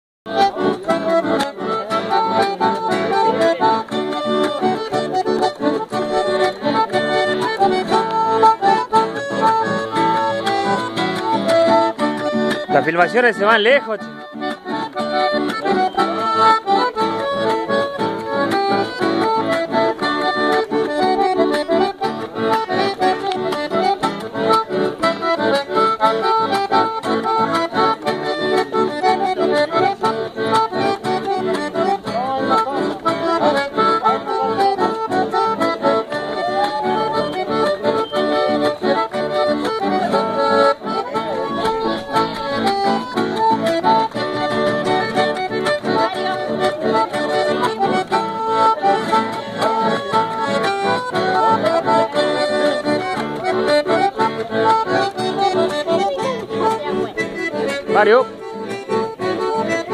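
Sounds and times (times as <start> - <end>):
accordion playing folk tune: 0.3 - 59.9
acoustic guitar strumming: 0.3 - 59.9.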